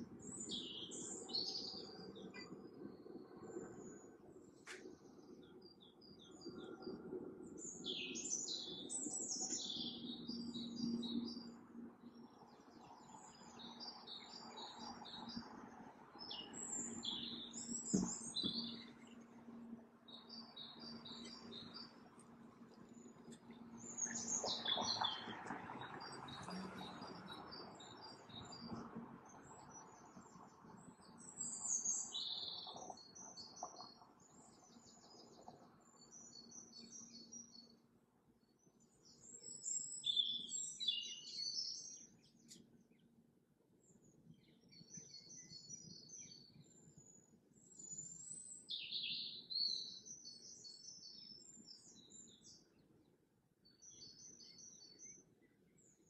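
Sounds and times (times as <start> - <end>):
small birds chirping: 0.1 - 37.8, 38.4 - 43.2, 43.8 - 56.0.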